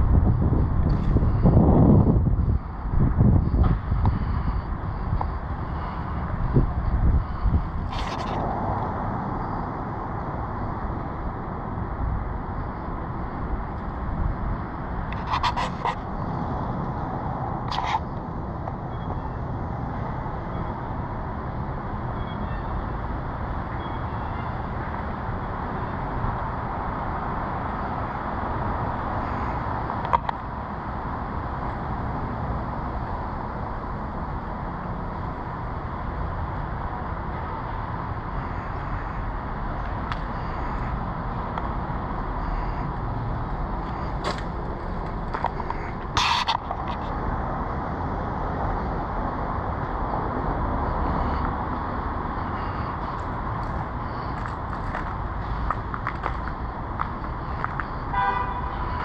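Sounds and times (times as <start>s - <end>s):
road traffic hum: 0.0s - 59.0s.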